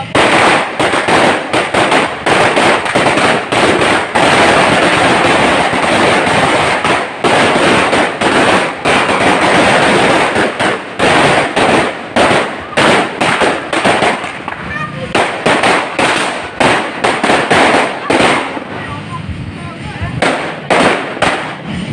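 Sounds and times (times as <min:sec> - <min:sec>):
firecracker string crackling: 0:00.0 - 0:21.9.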